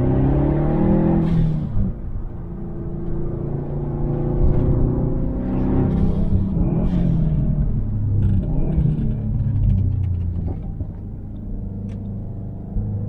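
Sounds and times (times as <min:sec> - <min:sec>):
boxer engine accelerating: 0:00.0 - 0:13.0.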